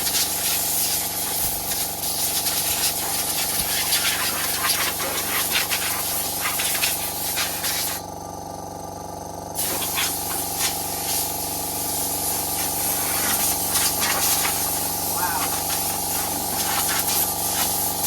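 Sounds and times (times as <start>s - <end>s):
motor running steadily: 0.0s - 18.0s.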